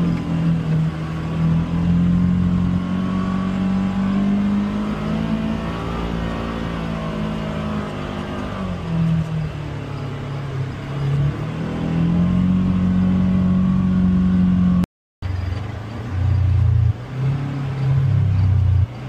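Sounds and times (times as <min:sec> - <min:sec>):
utility vehicle engine revving: 0:00.0 - 0:19.0.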